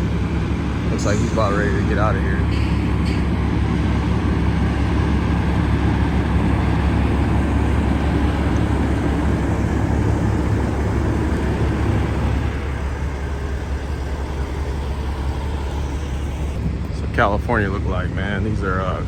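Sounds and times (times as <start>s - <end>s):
diesel engine idling low: 0.0s - 19.0s.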